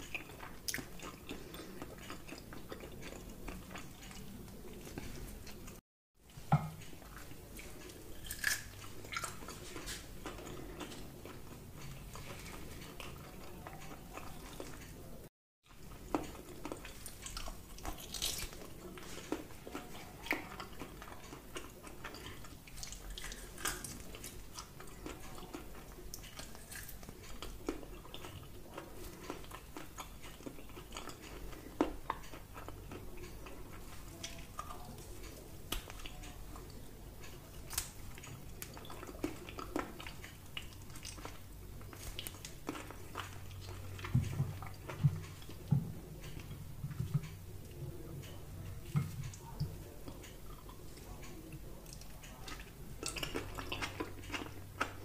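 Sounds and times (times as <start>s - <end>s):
chewing meat off the bone: 0.0s - 55.0s.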